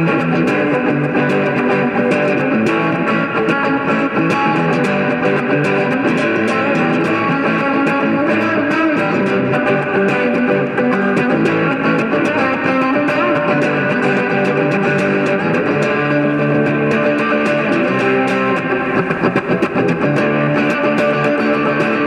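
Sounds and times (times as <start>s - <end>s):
electric guitar music: 0.0s - 22.0s.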